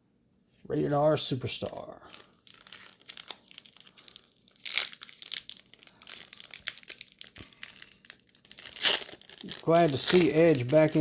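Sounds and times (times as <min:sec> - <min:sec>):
trading cards rustling and snapping: 0:01.6 - 0:11.0.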